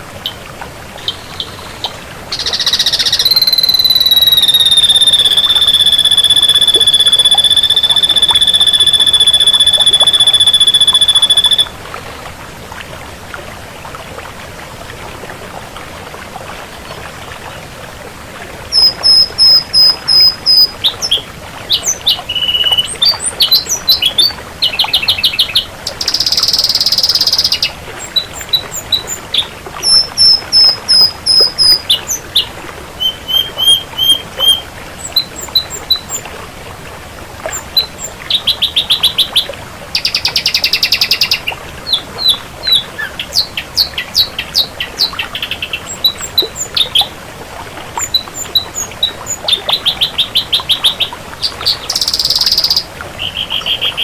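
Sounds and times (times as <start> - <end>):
bird singing: 1.0 - 11.7, 18.7 - 36.2, 37.5 - 47.2, 48.0 - 54.0.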